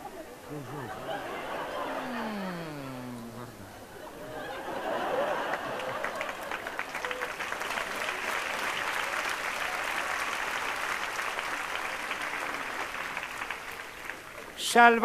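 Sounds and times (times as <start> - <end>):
audience applauding: 0.8 - 3.5, 4.4 - 14.6.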